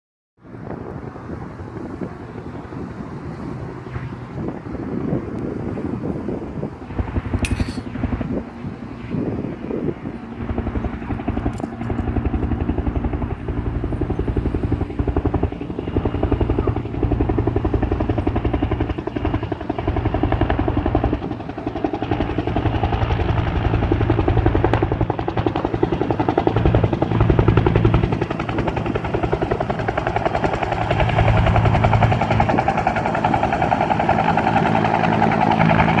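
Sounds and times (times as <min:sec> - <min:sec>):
helicopter rotor chopping: 0:00.5 - 0:36.0.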